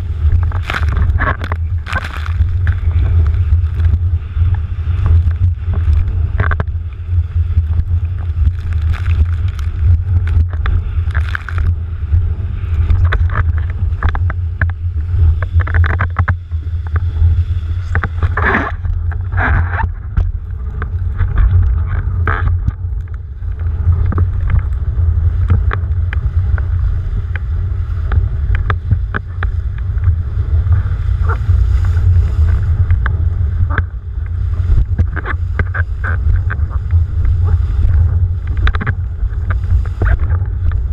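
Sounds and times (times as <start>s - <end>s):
water spraying and splashing: 0.0s - 40.9s
wind buffeting microphone: 0.0s - 40.9s.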